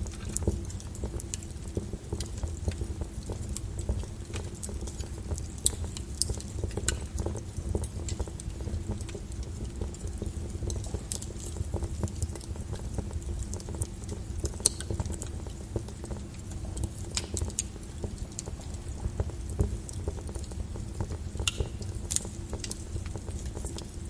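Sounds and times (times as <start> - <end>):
fireplace crackling: 0.0 - 24.0
rain on a window: 0.0 - 24.0.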